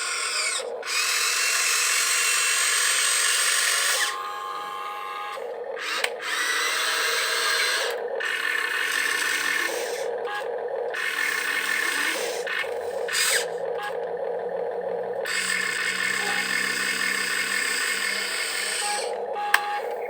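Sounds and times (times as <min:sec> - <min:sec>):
electric gear motors whirring: 0:00.0 - 0:20.0.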